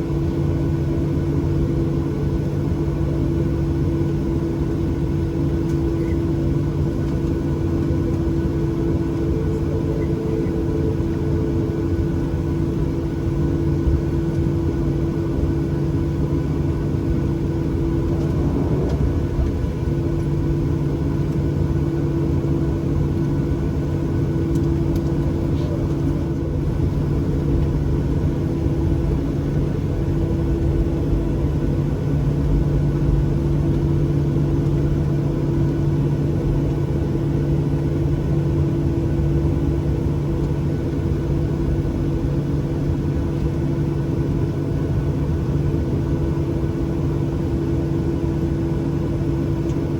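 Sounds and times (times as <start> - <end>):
jet engine drone in cabin: 0.0 - 49.9.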